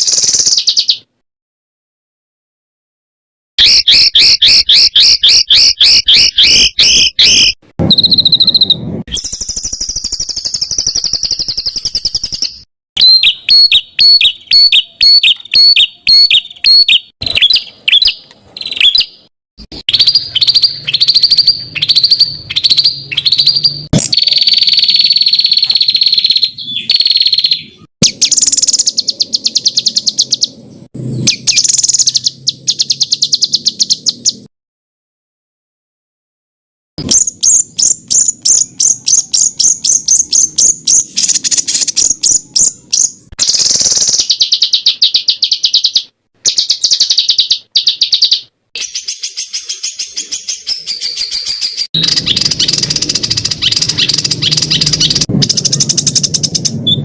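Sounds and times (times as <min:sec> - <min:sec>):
songbird chirps and trills: 0:03.6 - 0:34.5, 0:37.0 - 0:57.0.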